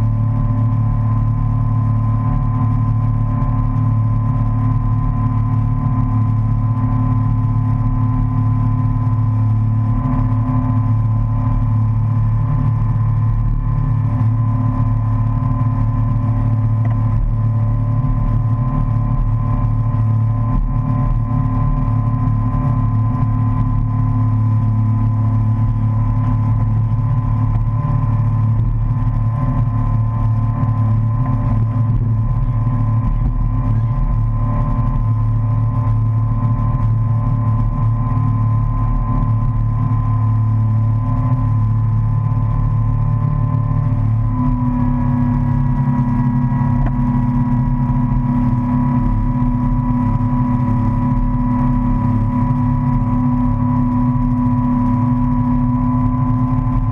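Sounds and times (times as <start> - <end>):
motorboat engine running: 0.0 - 56.9.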